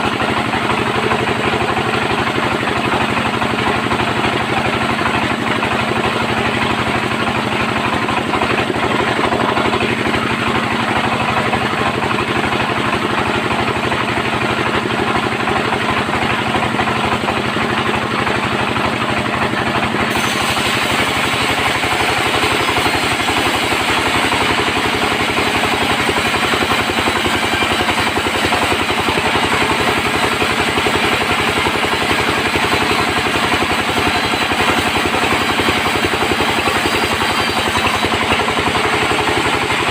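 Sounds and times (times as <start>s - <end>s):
band sawmill drone: 0.0s - 39.9s.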